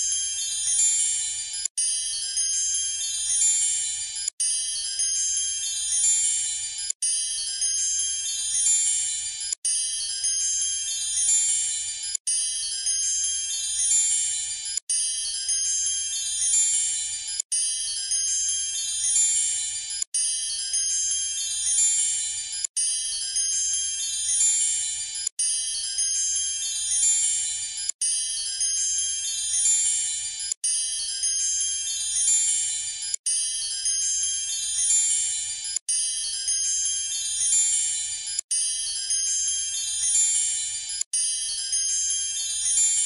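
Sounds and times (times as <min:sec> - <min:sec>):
tinkling bell-like chimes: 0:00.0 - 0:43.0.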